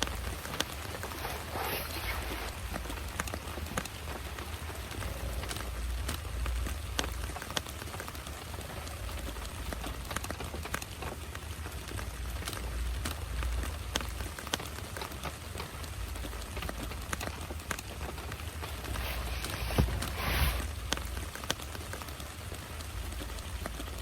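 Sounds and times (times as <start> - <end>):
close raindrop taps: 0.0 - 24.0
heavy rain: 0.0 - 24.0.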